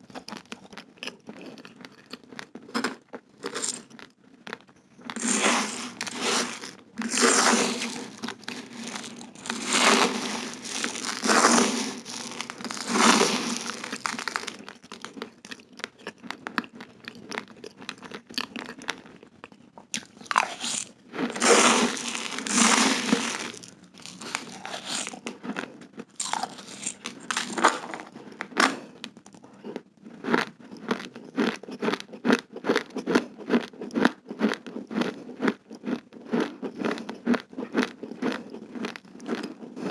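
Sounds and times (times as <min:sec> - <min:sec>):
chewing raw rice crunching: 0:00.0 - 0:39.9.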